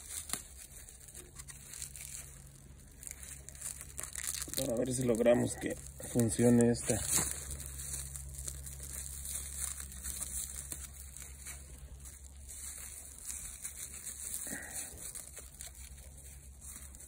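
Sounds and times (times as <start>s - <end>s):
plastic film crinkling: 0.0s - 17.0s.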